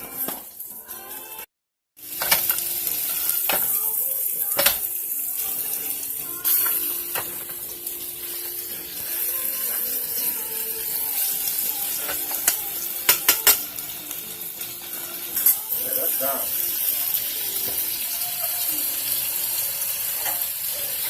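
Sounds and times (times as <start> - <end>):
steak sizzling in a pan: 2.0 - 21.0.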